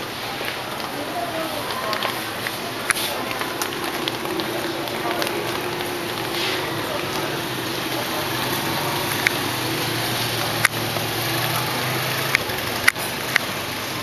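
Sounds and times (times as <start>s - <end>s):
street noise: 0.0s - 14.0s
motorcycle engine running: 2.2s - 14.0s.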